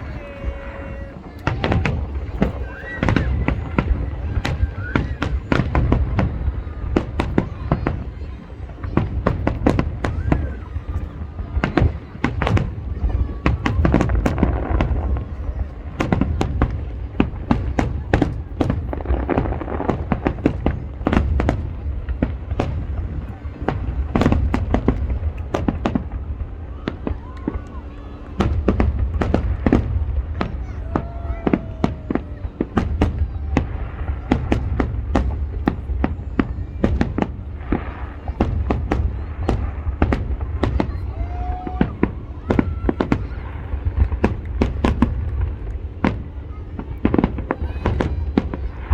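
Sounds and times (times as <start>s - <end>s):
fireworks cracks and bangs: 0.0s - 48.9s.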